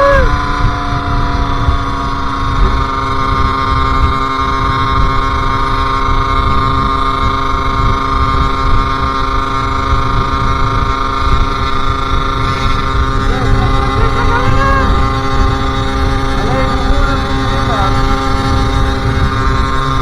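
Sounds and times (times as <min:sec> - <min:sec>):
two-stroke motorcycle engine running: 0:00.0 - 0:20.0
wind rumbling on microphone: 0:00.0 - 0:20.0.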